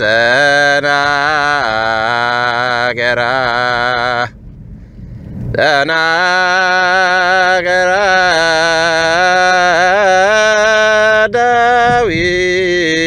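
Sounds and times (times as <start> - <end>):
person chanting a hymn: 0.0 - 4.4, 5.5 - 13.0
steady low drone: 0.0 - 13.0.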